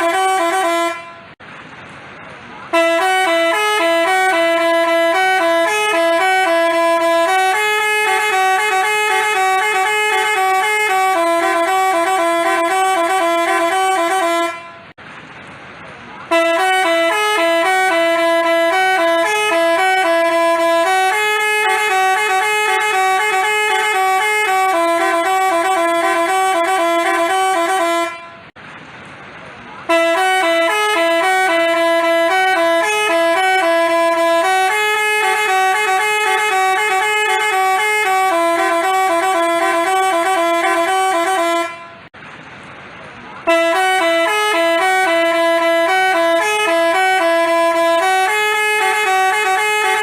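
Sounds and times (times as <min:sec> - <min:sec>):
multi-tone horn playing a tune: 0:00.0 - 0:01.4, 0:02.7 - 0:14.9, 0:16.3 - 0:28.5, 0:29.9 - 0:42.1, 0:43.4 - 0:50.0.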